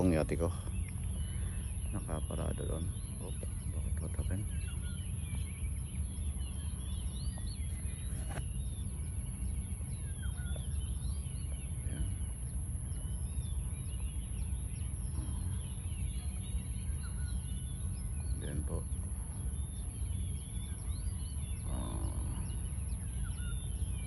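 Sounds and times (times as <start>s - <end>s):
birds chirping and whistling: 0.0s - 24.0s
low rumble: 0.0s - 24.0s.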